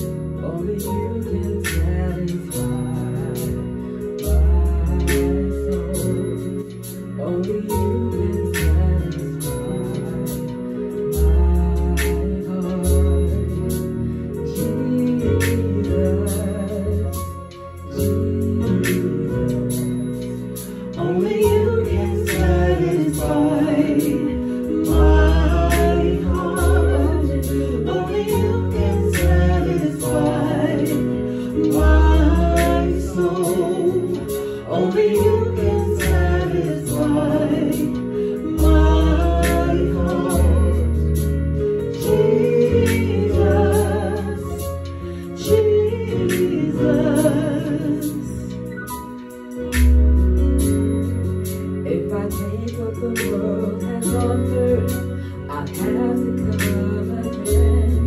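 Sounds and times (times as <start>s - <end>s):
gospel singers: 0.0s - 58.0s
keyboard chords and bass notes: 0.0s - 58.0s.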